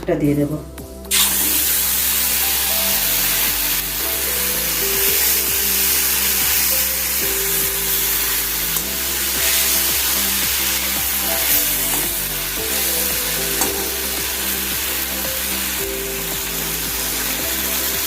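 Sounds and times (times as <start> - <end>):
background music: 0.0 - 18.0
fish sizzling in hot oil: 1.1 - 18.0.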